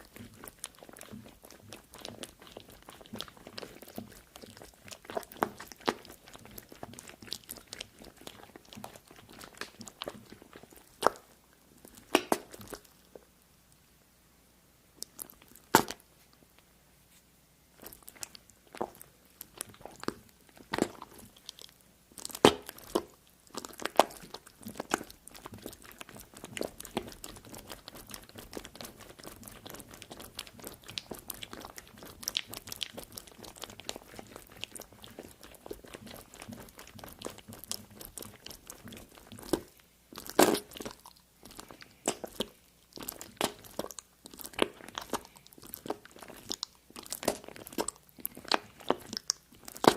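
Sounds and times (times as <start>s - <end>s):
crunching and crackling: 0.0s - 13.2s, 17.8s - 49.9s.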